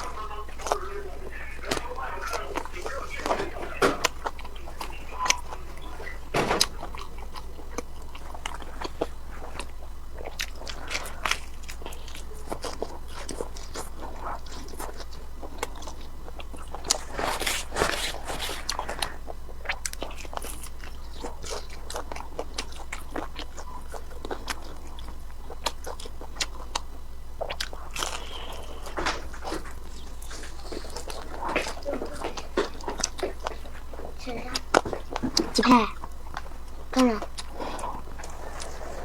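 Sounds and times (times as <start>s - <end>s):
chewing crunchy food: 0.0s - 39.0s
faint low hum: 0.0s - 39.0s.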